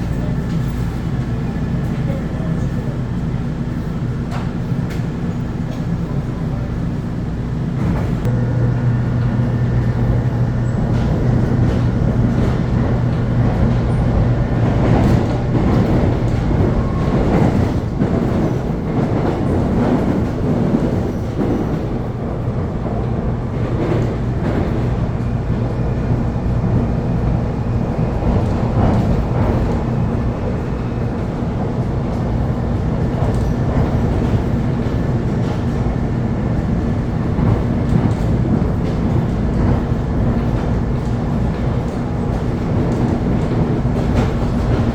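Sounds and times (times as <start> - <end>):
electric train rumbling hum: 0.0 - 44.9.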